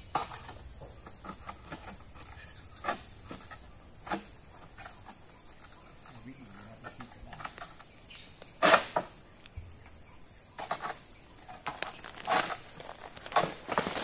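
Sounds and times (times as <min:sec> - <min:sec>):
high-pitched insect drone: 0:00.0 - 0:13.1.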